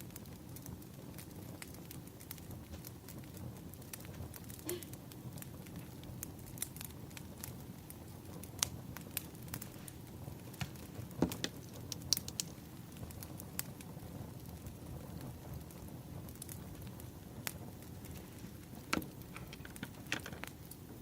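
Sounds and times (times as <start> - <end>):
firewood crackling and popping: 0.0 - 21.0
low rumble of fire: 0.0 - 21.0.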